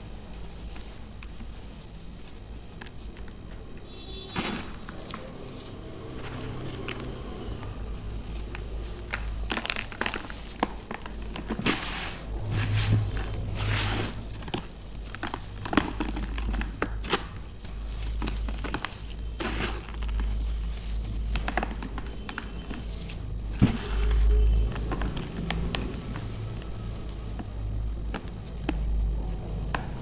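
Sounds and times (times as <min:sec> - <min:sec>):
baking soda chunks crunching: 0:00.0 - 0:30.0
low steady hum: 0:00.0 - 0:30.0.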